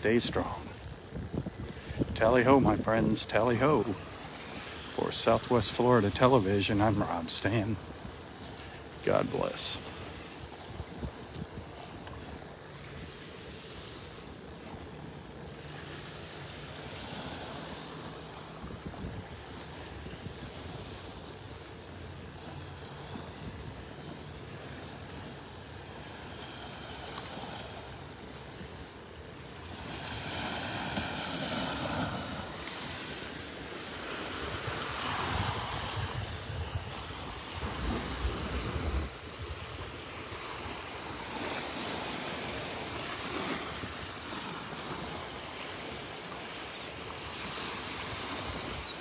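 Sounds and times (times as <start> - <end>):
small waves washing onto beach: 0.0 - 49.0
wind gusts on microphone: 0.0 - 49.0.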